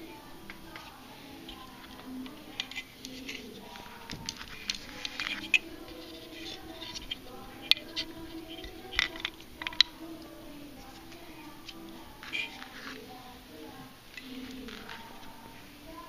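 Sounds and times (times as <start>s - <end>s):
hands handling wires and plastic: 0.0s - 13.2s, 14.1s - 15.6s.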